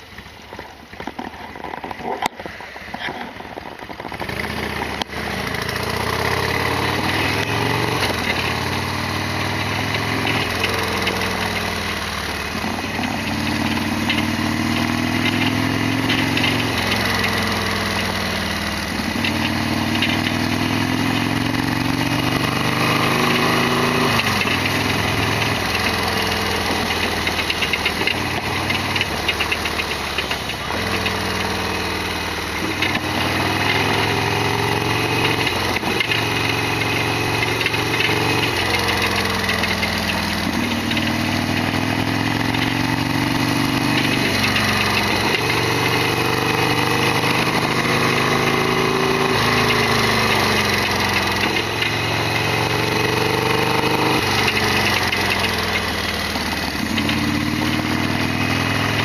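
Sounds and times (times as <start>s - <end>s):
motorcycle engine shifting gears: 0.0s - 59.0s
loud abnormal mechanical noise: 0.9s - 59.0s.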